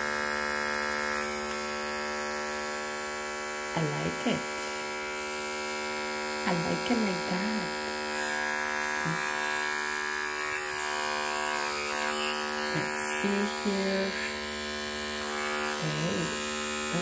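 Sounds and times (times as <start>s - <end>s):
hair clipper motor humming: 0.0s - 17.0s.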